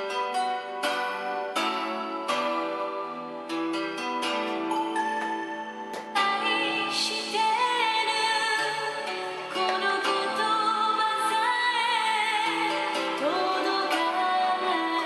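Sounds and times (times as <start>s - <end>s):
melodic background music: 0.0s - 15.0s.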